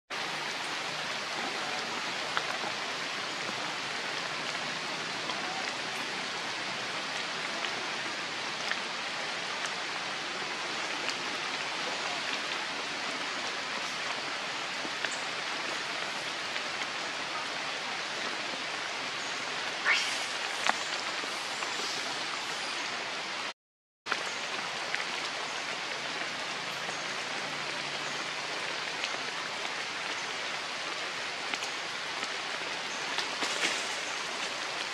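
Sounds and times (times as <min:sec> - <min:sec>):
rain falling on foliage: 0:00.1 - 0:23.5, 0:24.1 - 0:34.9.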